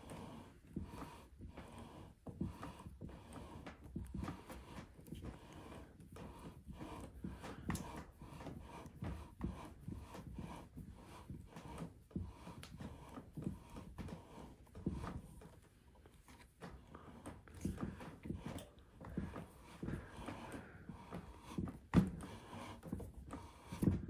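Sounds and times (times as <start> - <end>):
lapping tool rubbing and scraping: 0.0 - 24.0.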